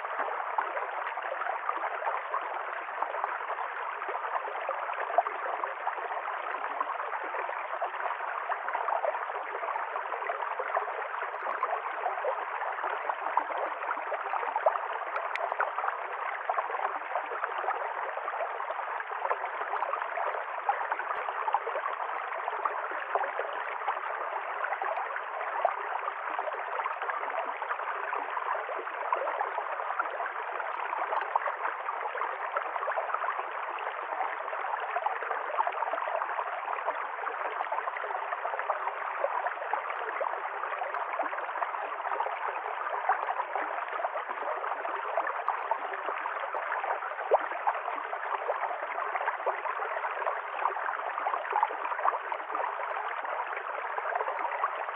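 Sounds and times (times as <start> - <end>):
stream gurgling over stones: 0.0 - 54.9.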